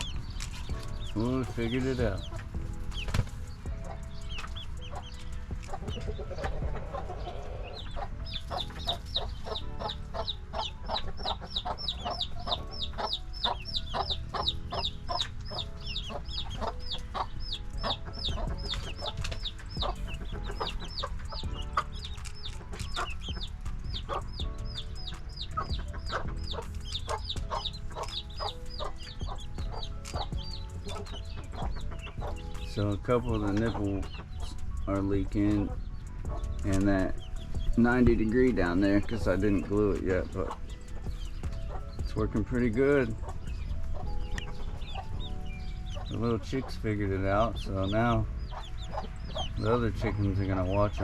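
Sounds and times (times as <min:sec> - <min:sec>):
baby chicks peeping: 0:00.0 - 0:51.0.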